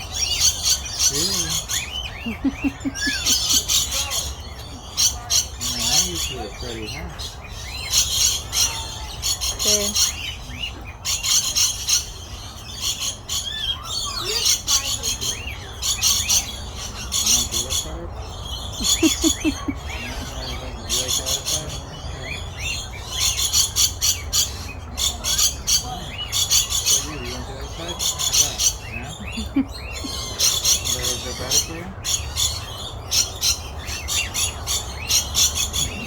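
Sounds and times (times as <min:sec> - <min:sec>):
small birds chirping and squawking: 0:00.0 - 0:36.0.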